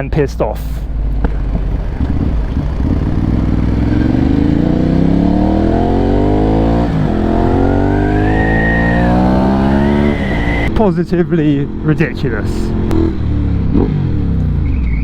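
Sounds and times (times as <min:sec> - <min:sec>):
motorcycle accelerating hard: 0:01.0 - 0:10.9, 0:11.6 - 0:14.9.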